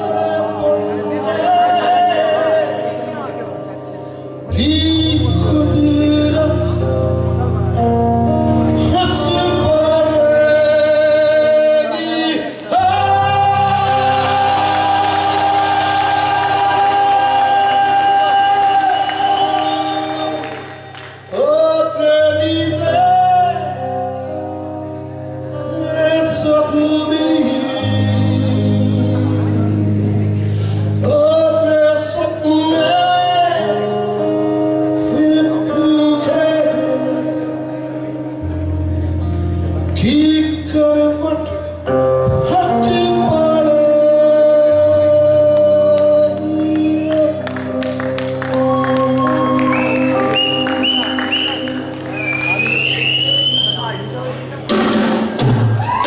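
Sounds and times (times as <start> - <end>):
man singing: 0.0 - 38.9, 39.9 - 51.9
electric bass notes: 0.0 - 56.0
live band playing: 0.0 - 56.0.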